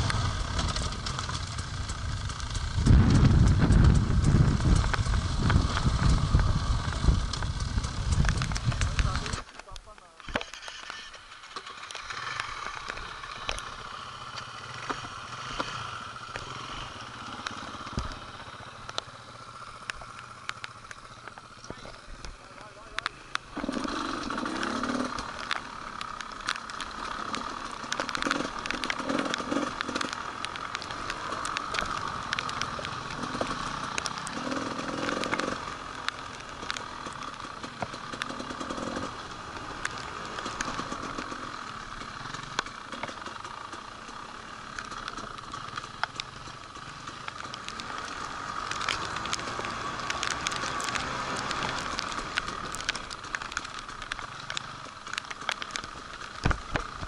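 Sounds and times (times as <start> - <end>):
clicks and crackles: 0.0 - 57.0
motorcycle engine drone: 0.0 - 57.0.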